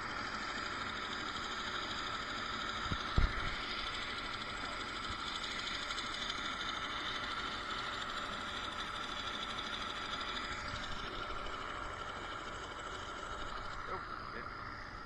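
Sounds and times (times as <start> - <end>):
helicopter engine idling: 0.0 - 15.0.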